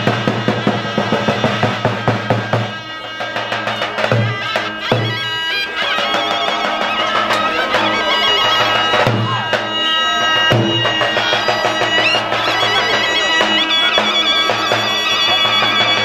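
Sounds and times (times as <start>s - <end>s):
reedy wind instrument melody: 0.0s - 16.0s.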